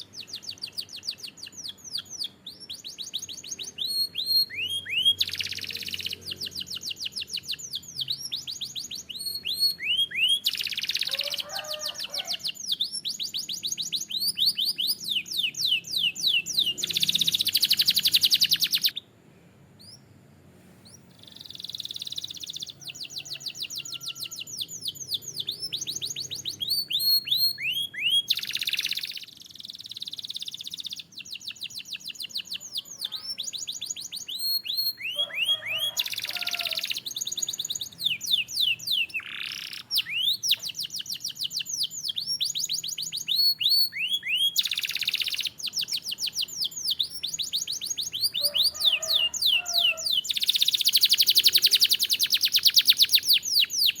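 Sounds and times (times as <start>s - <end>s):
canary singing: 0.0s - 19.1s, 19.8s - 20.2s, 20.8s - 54.0s.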